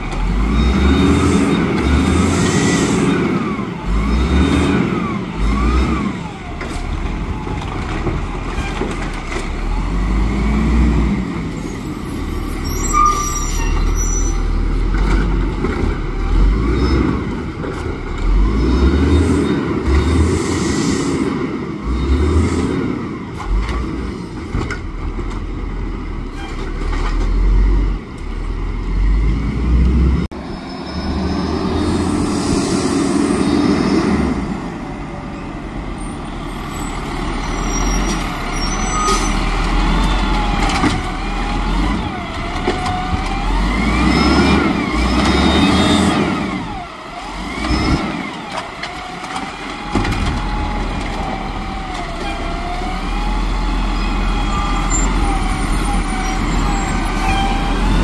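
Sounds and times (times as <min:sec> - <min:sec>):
diesel engine revving: 0:00.0 - 0:08.6, 0:09.2 - 0:25.2, 0:26.8 - 0:58.0.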